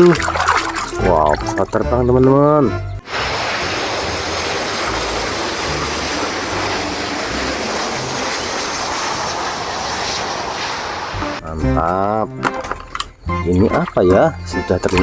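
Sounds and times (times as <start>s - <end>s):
water spraying: 0.0s - 15.0s.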